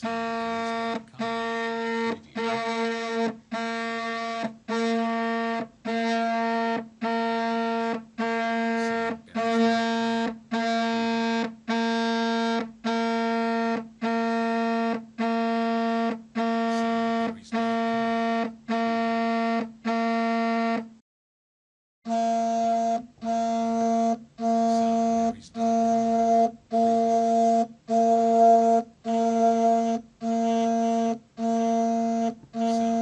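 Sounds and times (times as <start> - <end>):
cell phone vibrating: 0.0 - 20.9, 22.1 - 33.0.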